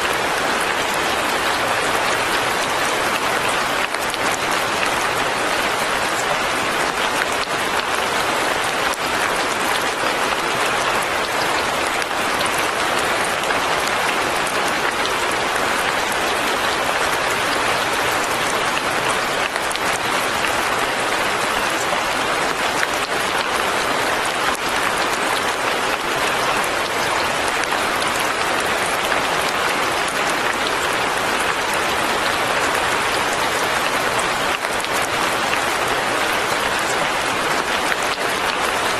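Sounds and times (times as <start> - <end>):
light rain on leaves and roof: 0.0 - 38.9.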